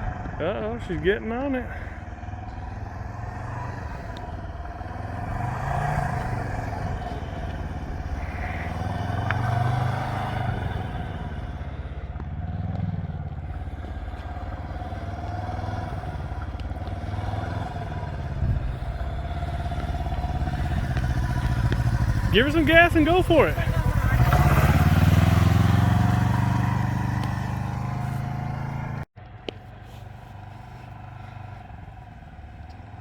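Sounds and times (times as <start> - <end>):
motorcycle engine revving: 0.0 - 29.1.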